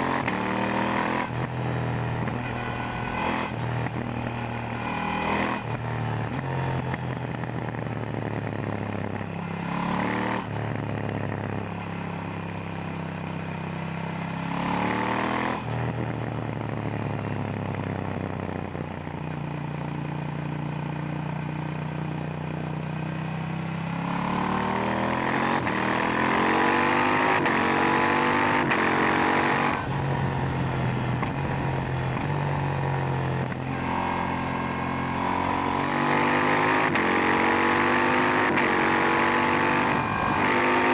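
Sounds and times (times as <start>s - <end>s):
motorcycle engine revving: 0.0s - 19.1s, 23.2s - 40.9s.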